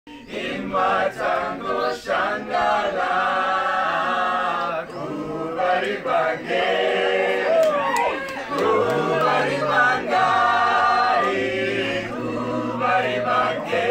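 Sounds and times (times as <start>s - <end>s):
choir singing unaccompanied: 0.1s - 13.9s.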